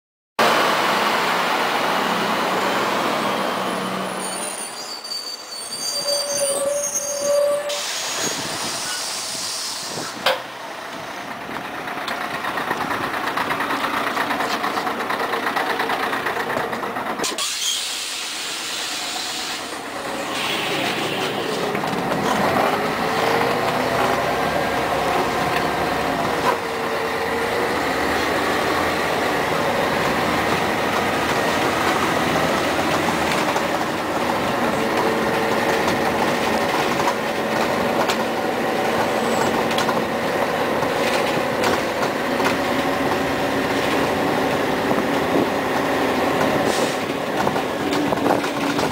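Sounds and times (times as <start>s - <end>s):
bus engine pulling away: 0.4s - 48.9s.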